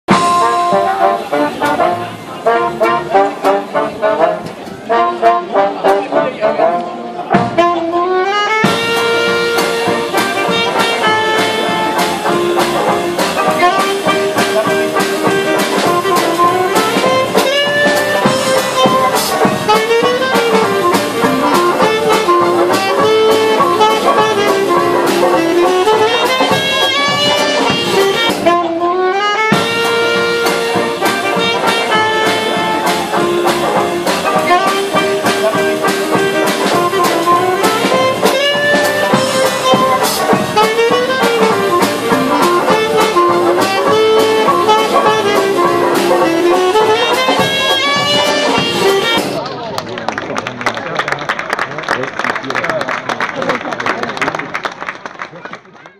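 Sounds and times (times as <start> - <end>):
jazz band playing: 0.1 - 49.6.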